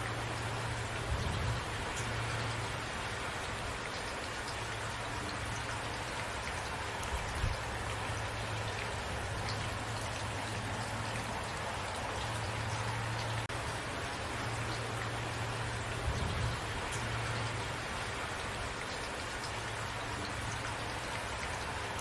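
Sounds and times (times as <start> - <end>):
rain hissing: 0.0 - 22.0
raindrops pattering: 0.0 - 22.0.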